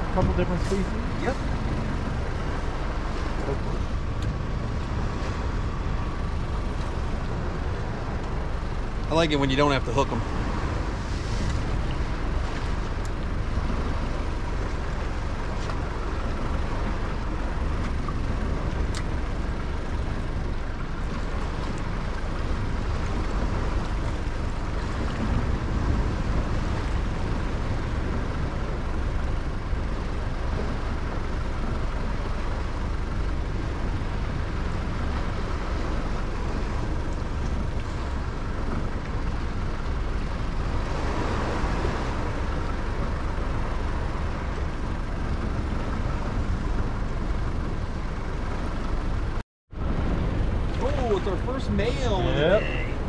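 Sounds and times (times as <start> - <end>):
water around boat: 0.0 - 53.0
wind rumble: 0.0 - 53.0.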